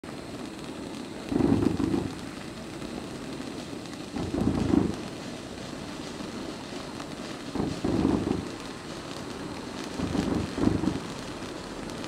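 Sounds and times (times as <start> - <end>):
firework fountain hissing: 0.0 - 12.0.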